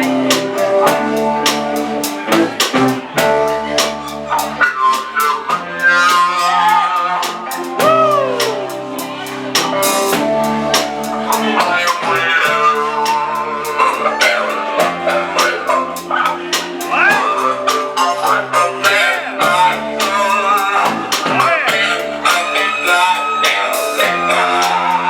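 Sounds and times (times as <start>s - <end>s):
drum kit beat: 0.0s - 25.0s.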